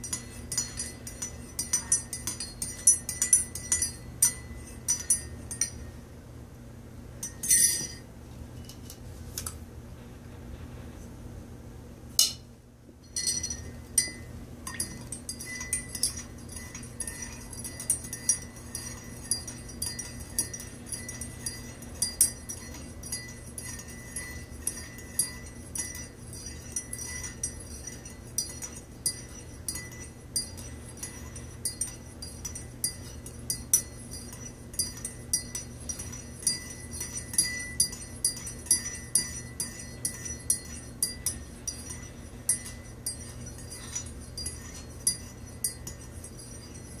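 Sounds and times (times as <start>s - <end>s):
teaspoon clinking in ceramic mug: 0.0s - 5.8s, 13.1s - 47.0s.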